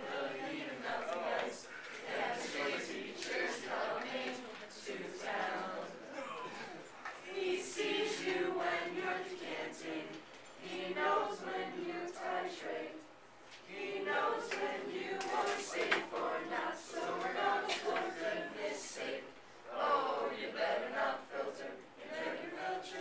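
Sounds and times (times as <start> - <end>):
group of teenagers singing a carol: 0.0 - 23.0.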